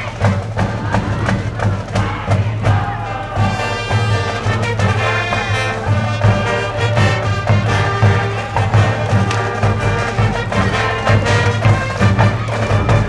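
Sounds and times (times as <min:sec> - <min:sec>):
brass band playing cheer tune: 0:00.0 - 0:13.0.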